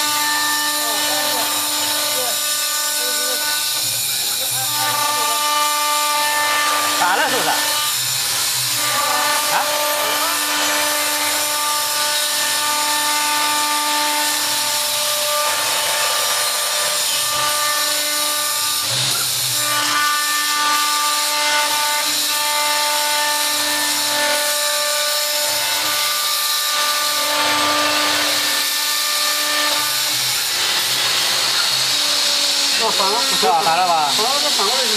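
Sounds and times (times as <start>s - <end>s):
cutter hissing on wood: 0.0s - 34.9s.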